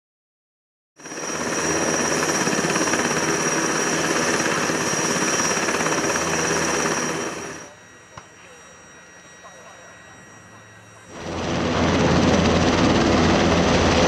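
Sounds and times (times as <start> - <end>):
radial piston engines running: 1.0 - 14.0.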